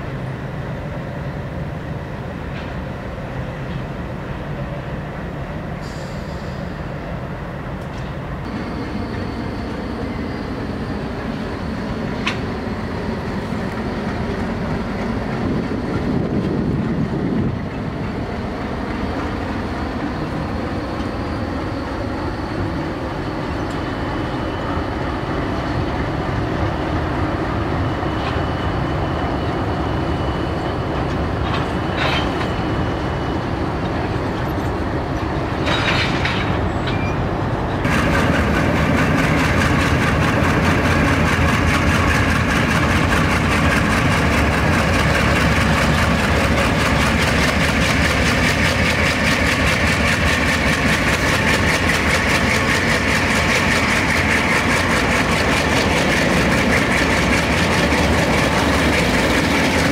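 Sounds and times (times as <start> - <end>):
diesel locomotives rumbling: 0.0 - 59.9.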